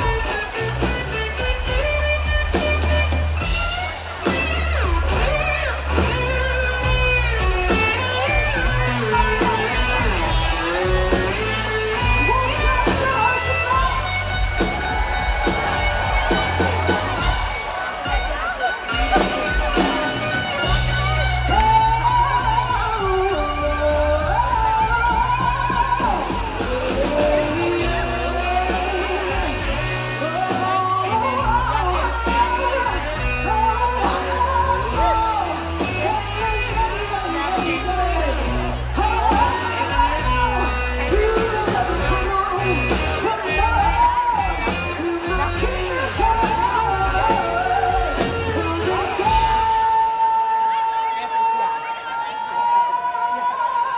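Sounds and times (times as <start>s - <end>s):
slide guitar: 0.0s - 50.0s
steady drum beat: 0.0s - 50.1s
bass: 0.0s - 51.3s.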